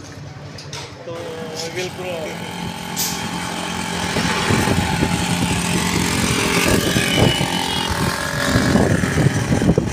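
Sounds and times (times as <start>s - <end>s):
wind and road noise: 0.0s - 9.9s
motorcycle engine running: 1.2s - 9.9s
scooter engine running: 1.2s - 9.9s.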